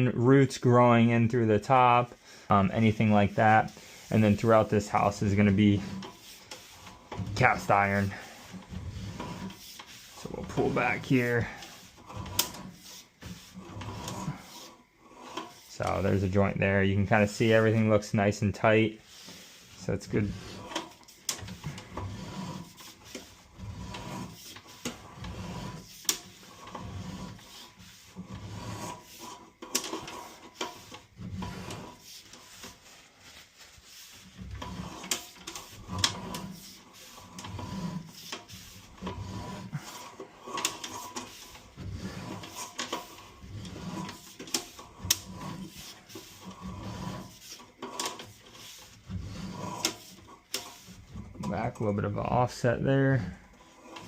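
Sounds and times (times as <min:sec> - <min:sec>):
cable rubbing and clicking: 0:02.7 - 0:52.5, 0:53.5 - 0:54.0.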